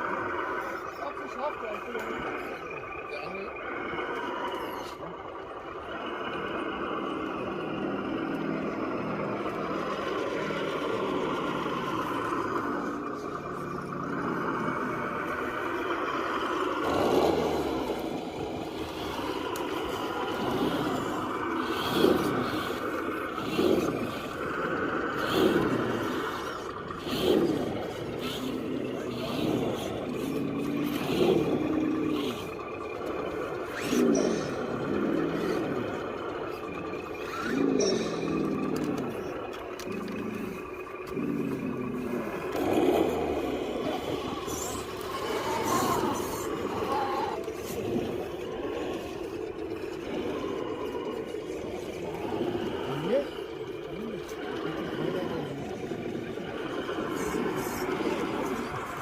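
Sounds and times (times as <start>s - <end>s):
small electric motors whining: 0.0s - 59.0s.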